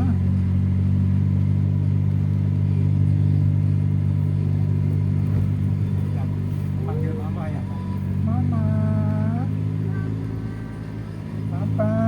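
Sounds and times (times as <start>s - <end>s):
road noise: 0.0s - 12.0s
vehicle engine cruising: 0.0s - 12.0s.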